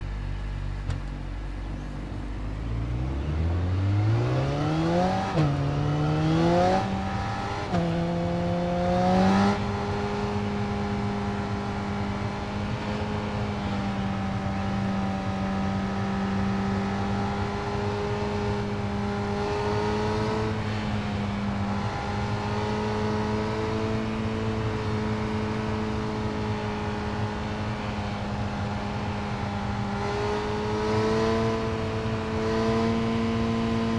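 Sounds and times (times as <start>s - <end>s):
motorcycle engine revving: 1.4s - 33.9s.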